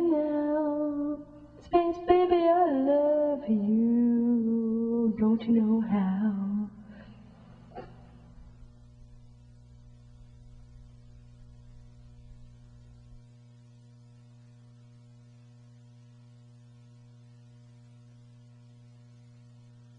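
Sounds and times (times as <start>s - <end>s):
faint electrical hum: 0.0s - 19.9s.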